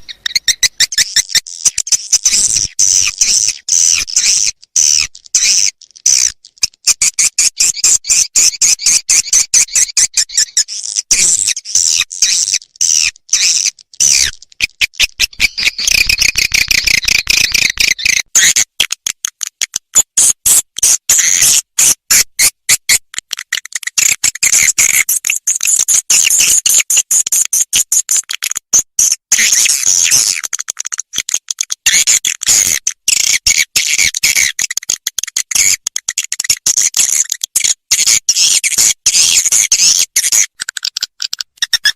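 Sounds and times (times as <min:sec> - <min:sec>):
recorded bird chirps and twittering: 0:00.0 - 0:41.9.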